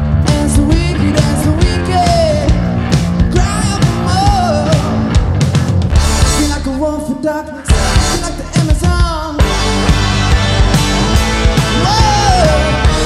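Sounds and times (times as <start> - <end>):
drum kit with cymbals: 0.0 - 13.0
heavy electric guitar: 0.0 - 13.0
high lead guitar line bending: 0.0 - 13.0
rock band playing: 0.0 - 13.0.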